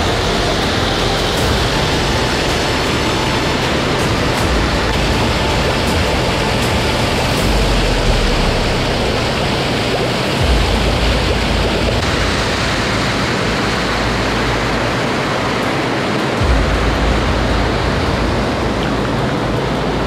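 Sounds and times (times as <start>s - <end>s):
low rumble: 0.0s - 20.0s
rain and running water: 0.0s - 20.0s.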